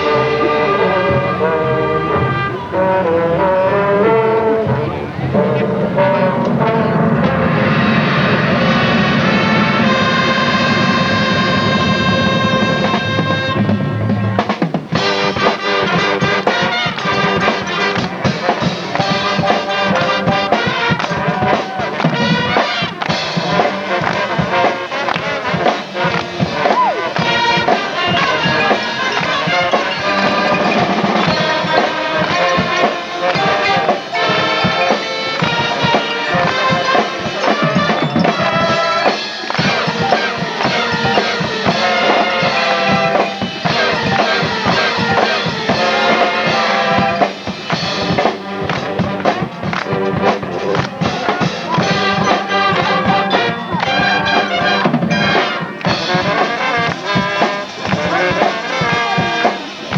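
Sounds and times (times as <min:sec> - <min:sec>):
brass chords and melody: 0:00.0 - 0:59.9
marching drums: 0:04.0 - 0:59.9.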